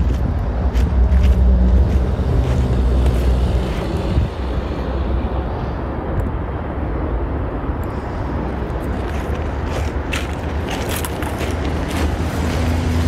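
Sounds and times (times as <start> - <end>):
motor vehicle engine rumble: 0.0 - 13.0
steady rushing noise: 0.0 - 13.0.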